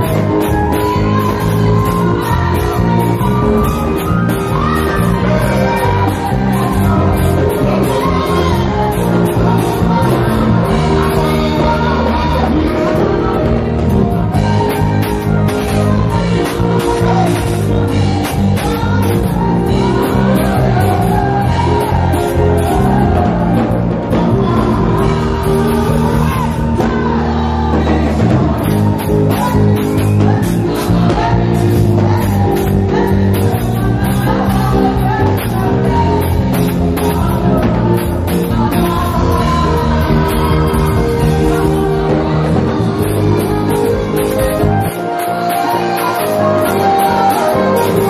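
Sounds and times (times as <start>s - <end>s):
band playing upbeat music: 0.0s - 48.0s
drum kit: 0.0s - 48.0s
voices singing along: 0.0s - 48.0s.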